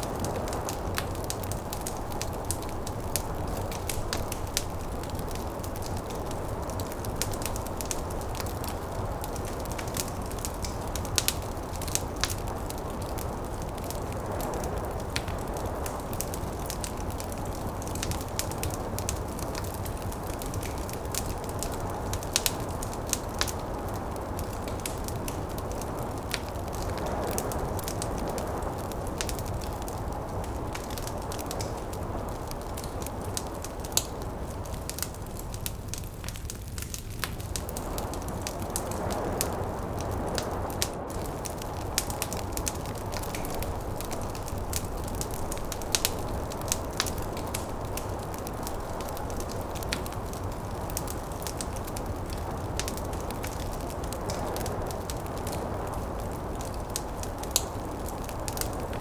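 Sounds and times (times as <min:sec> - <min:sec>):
snowstorm rushing: 0:00.0 - 0:59.0
wood fire crackling and popping: 0:00.0 - 0:59.0.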